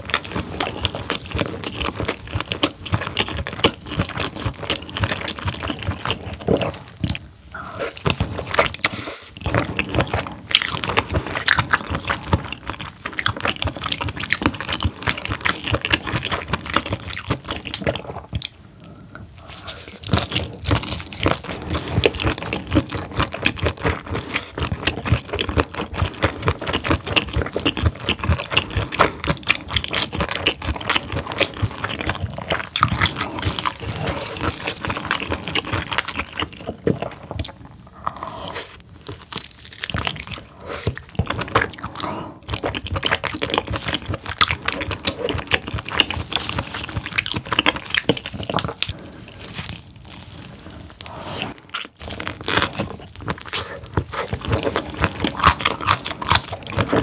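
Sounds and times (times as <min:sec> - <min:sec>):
person chewing and biting: 0:00.0 - 0:18.6, 0:19.4 - 0:57.0.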